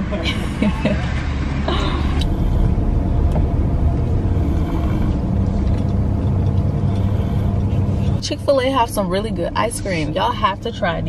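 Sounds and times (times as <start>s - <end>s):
car engine rumbling inside cabin: 0.0s - 11.0s.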